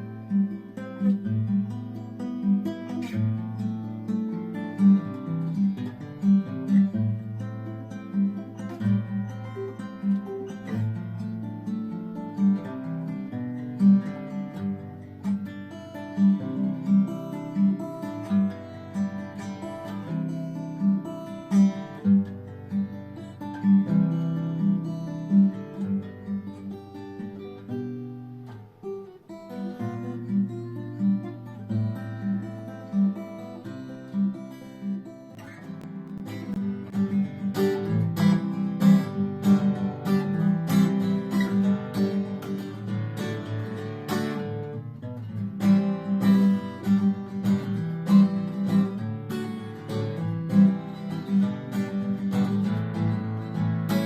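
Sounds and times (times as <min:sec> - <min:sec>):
fingerpicked acoustic guitar: 0:00.0 - 0:54.0.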